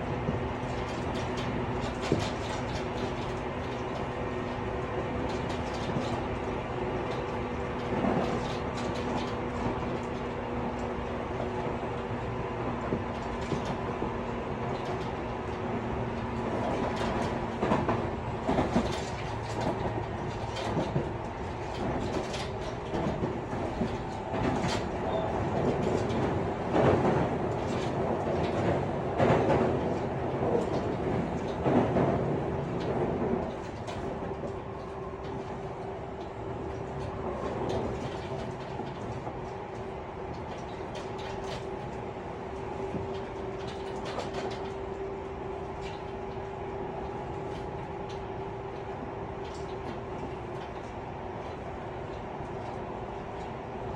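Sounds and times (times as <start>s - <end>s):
electric train rumble inside car: 0.0s - 53.9s
gangway rattling: 0.0s - 53.9s
wheels clacking over rail joints: 0.0s - 53.9s.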